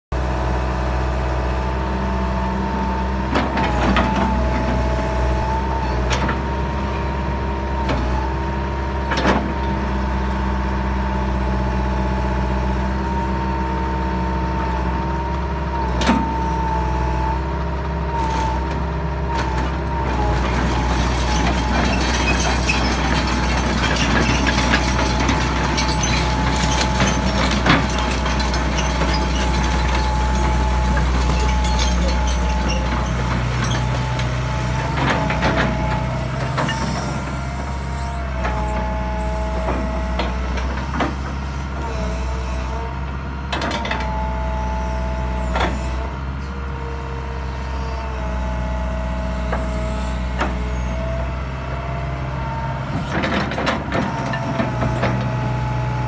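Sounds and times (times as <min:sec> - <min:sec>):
excavator engine with hydraulic whine: 0:00.2 - 0:56.0.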